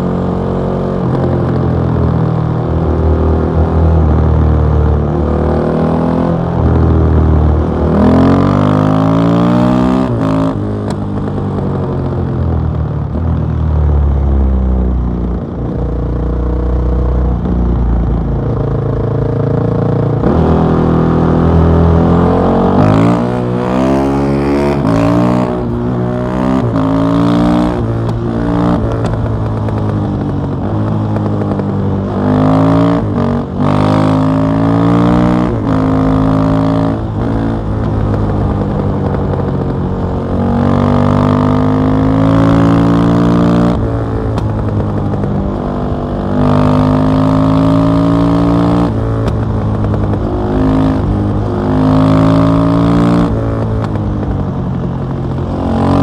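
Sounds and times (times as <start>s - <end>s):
motorcycle engine revving: 0.0s - 12.5s, 15.0s - 56.0s.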